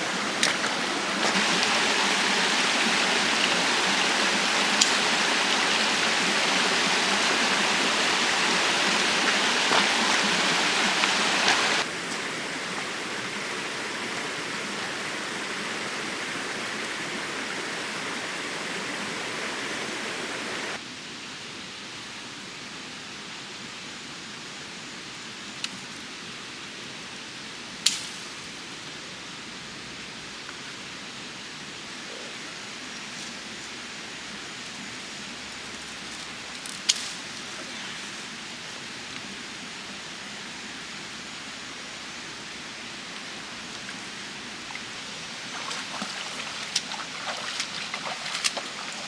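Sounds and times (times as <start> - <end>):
stream water rushing: 0.0 - 20.9, 28.9 - 49.0.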